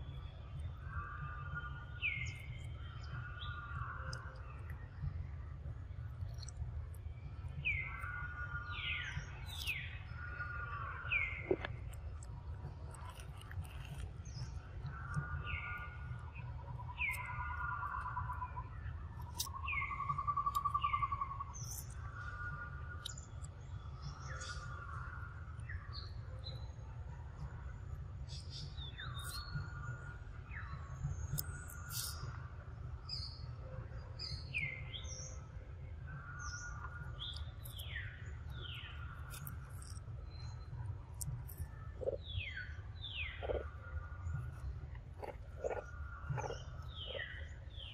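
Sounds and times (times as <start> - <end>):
steady low rumble: 0.0 - 47.9
birds chirping: 7.3 - 26.8, 28.2 - 47.9.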